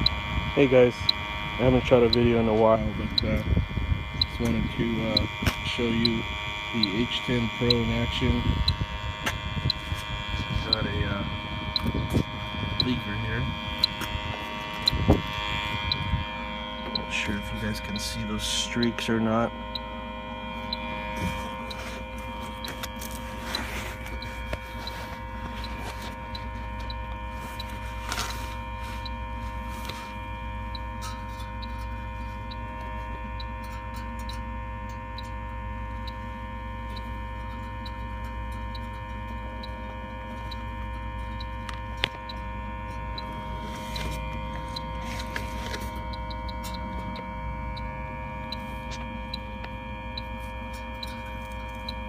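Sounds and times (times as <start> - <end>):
leak detector ticking: 0.0 - 52.0
steady electrical hum: 0.0 - 52.0.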